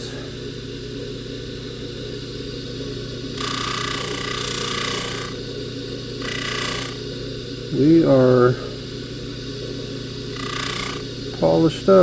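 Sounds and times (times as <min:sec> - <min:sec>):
hissing whine of buffing wheel: 0:00.0 - 0:12.0
polishing motor running: 0:00.0 - 0:12.0.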